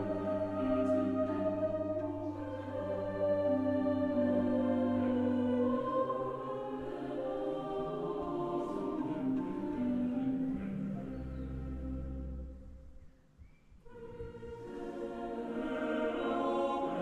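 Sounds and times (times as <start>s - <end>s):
slow choir-like background music: 0.0s - 13.0s, 13.8s - 17.0s.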